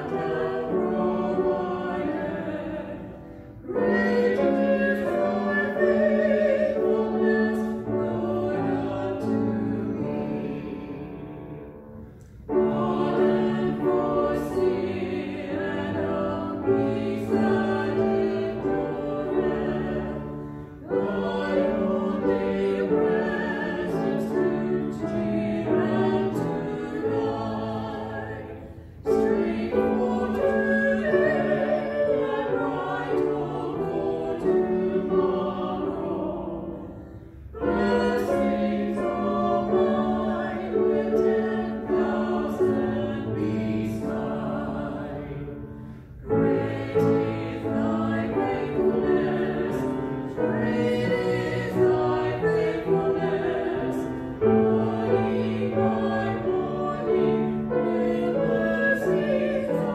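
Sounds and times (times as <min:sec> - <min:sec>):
group singing a hymn: 0:00.0 - 0:59.9.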